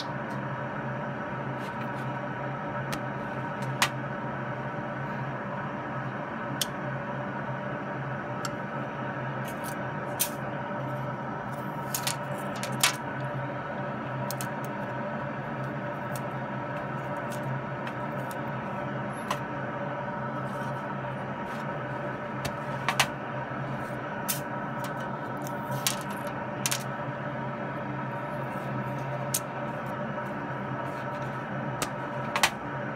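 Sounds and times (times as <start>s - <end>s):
steady hum with held tones: 0.0s - 32.9s.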